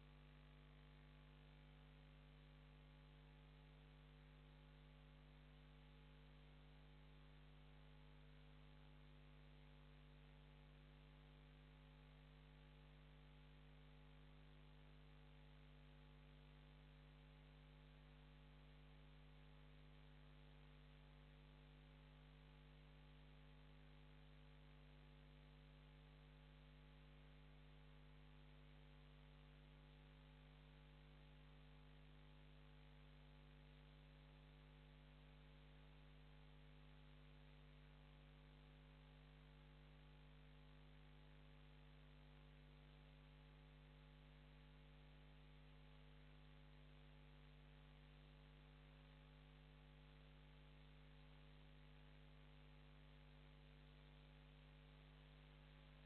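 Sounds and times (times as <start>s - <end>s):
faint mains hum: 0.0s - 56.0s.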